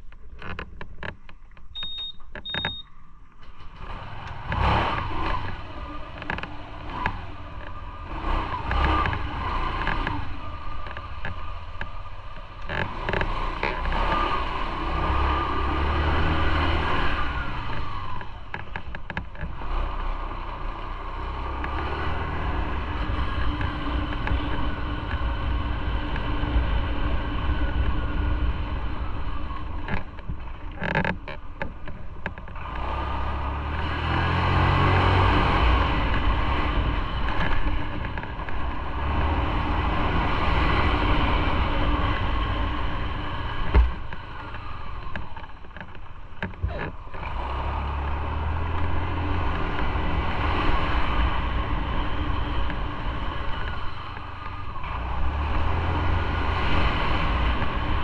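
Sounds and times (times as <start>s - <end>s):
wind and road noise: 0.0s - 58.0s
motorcycle engine running: 4.0s - 58.0s.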